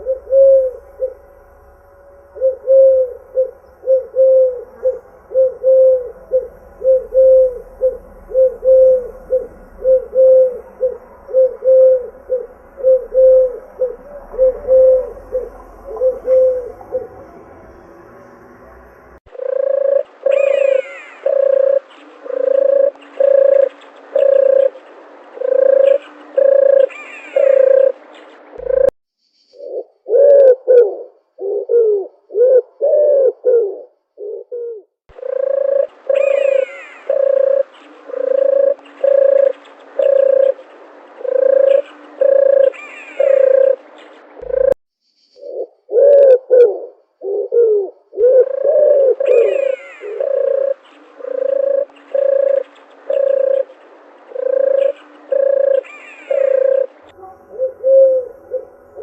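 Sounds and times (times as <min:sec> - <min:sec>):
doves cooing: 0:00.0 - 0:01.4, 0:02.3 - 0:17.6, 0:19.3 - 0:28.9, 0:29.6 - 0:44.8, 0:45.4 - 0:59.0
faint high bird calls: 0:00.0 - 0:18.4, 0:19.3 - 0:59.0.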